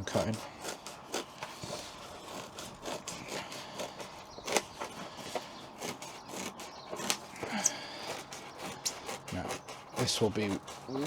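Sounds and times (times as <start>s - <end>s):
scissors cutting insulation: 0.0s - 11.0s.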